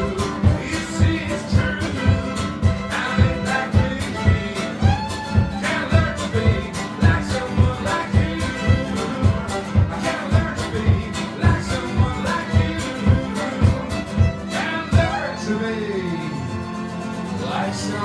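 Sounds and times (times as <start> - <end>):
steady drum beat: 0.0 - 15.3
live band playing: 0.0 - 15.8.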